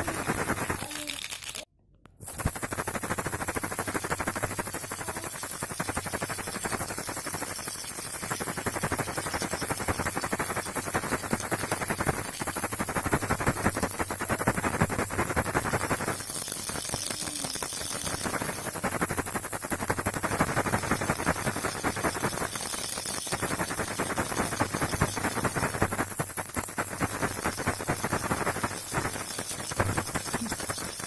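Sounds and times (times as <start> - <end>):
baby rattle shaking: 0.0 - 31.0.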